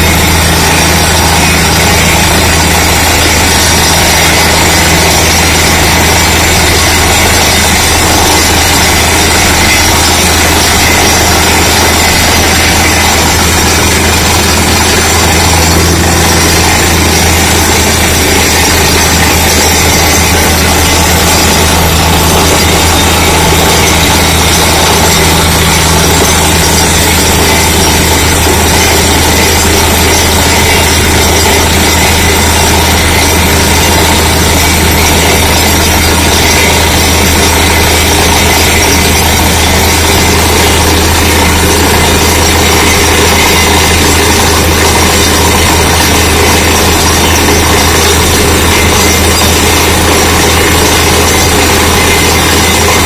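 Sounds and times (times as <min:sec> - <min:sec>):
drilling rig engine: 0:00.0 - 0:53.0.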